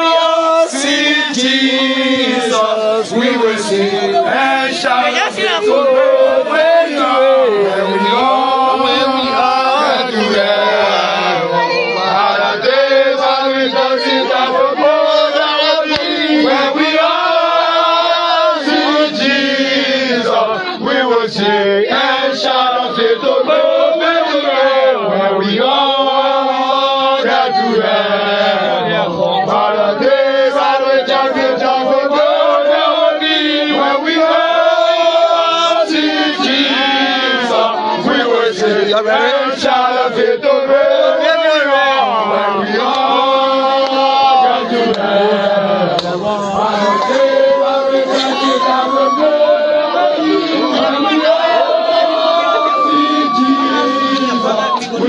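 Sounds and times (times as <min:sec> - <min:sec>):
crowd chanting on held notes: 0:00.0 - 0:55.0.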